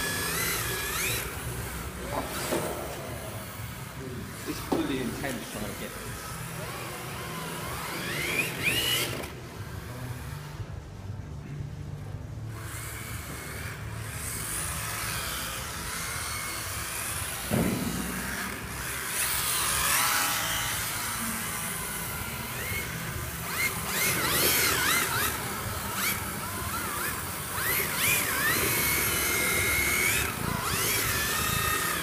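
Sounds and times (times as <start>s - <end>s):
rc car electric motors whining: 0.0s - 32.0s.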